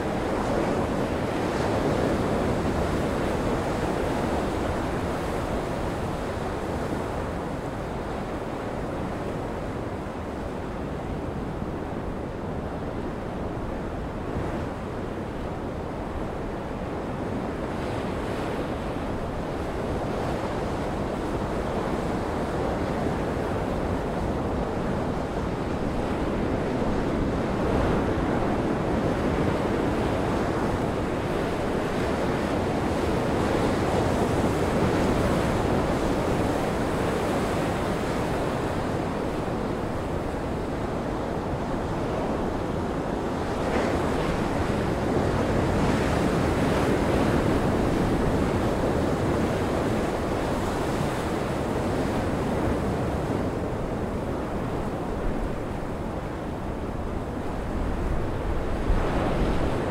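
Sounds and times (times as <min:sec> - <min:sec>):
gale-force wind: 0:00.0 - 0:59.9
wind buffeting microphone: 0:00.0 - 0:59.9.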